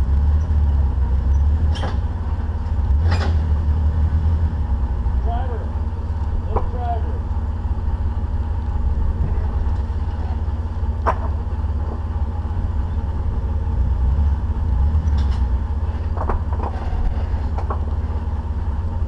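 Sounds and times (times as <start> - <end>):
engine running low rumble: 0.0 - 19.0.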